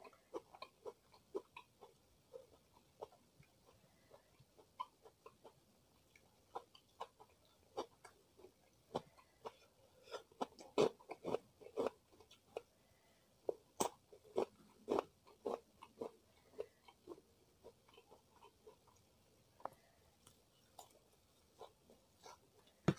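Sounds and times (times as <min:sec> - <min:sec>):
chewing crunchy food: 0:00.0 - 0:22.9.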